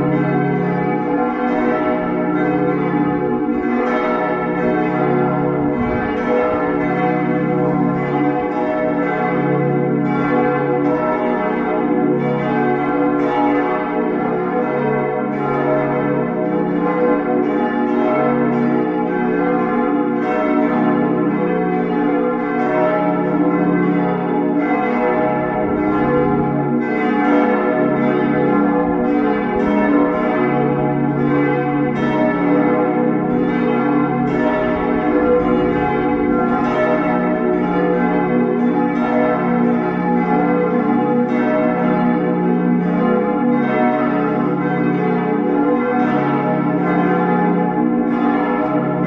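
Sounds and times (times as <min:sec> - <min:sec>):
church bells pealing: 0:00.0 - 0:49.0.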